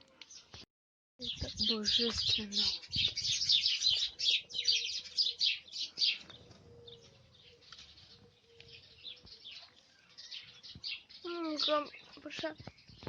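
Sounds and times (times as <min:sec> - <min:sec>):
flock of small birds chirping: 0:00.0 - 0:00.6, 0:01.2 - 0:13.0.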